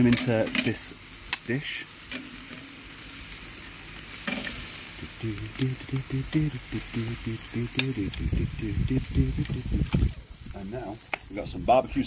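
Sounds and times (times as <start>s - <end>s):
chicken sizzling on grill: 0.0s - 12.0s.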